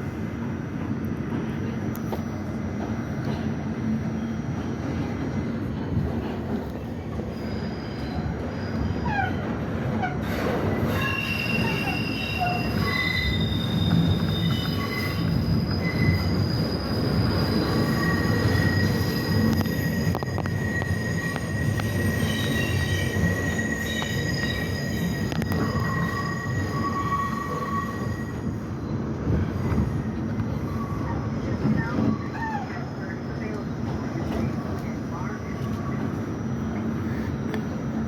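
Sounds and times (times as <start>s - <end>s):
low train rumble: 0.0s - 38.0s
subway train wheels squealing: 0.0s - 38.0s.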